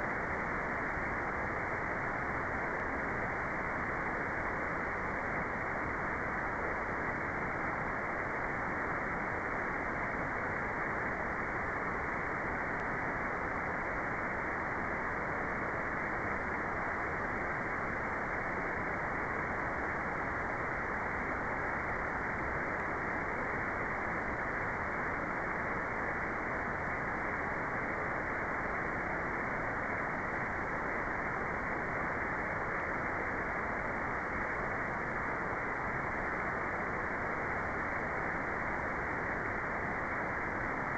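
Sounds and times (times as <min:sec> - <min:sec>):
white noise rush: 0:00.0 - 0:40.9.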